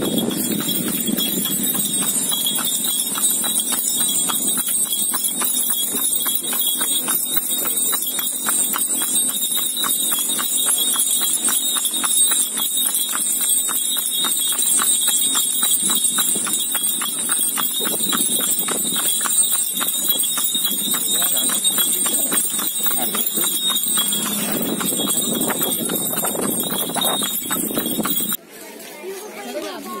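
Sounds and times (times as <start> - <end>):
hooves clip-clopping on asphalt: 0.0 - 30.0.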